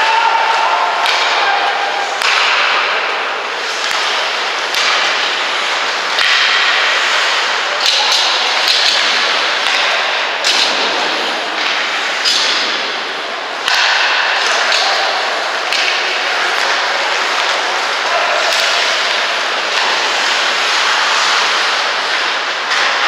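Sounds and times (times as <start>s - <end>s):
hockey sticks and puck clacking: 0.0s - 23.0s
skate blades scraping ice: 0.1s - 23.0s.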